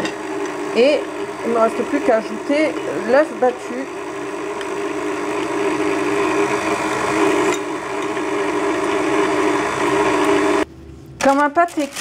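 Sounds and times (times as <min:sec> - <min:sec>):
stand mixer motor running: 0:00.0 - 0:10.6.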